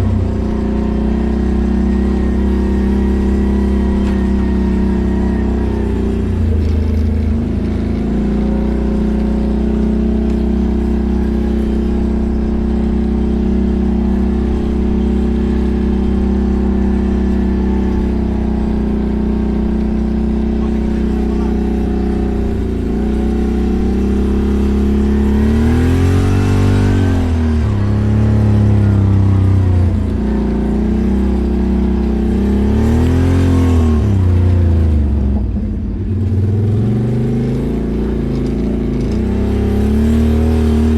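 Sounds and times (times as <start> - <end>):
engine revving: 0.0 - 40.9.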